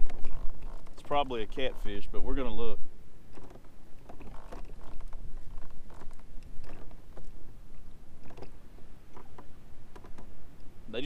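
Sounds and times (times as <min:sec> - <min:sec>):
kayak hull creaks and knocks: 0:00.0 - 0:11.0.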